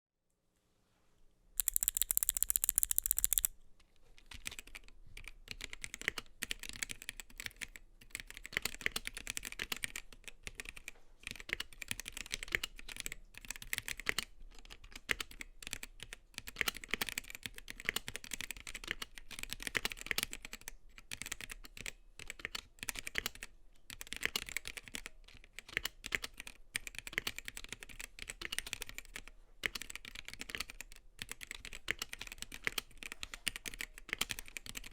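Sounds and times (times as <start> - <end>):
mechanical keyboard typing: 1.6 - 3.5, 4.3 - 34.9.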